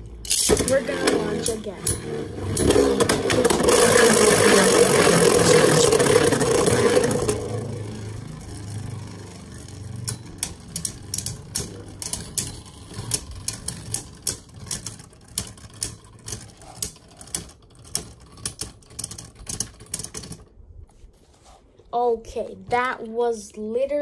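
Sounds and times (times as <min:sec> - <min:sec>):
spinning tops clacking together: 0:00.1 - 0:20.4.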